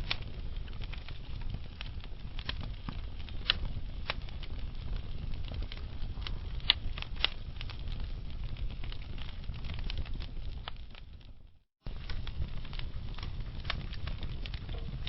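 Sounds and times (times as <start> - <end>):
burning logs crackling and popping: 0.0 - 15.0
wood fire burning: 0.0 - 15.0.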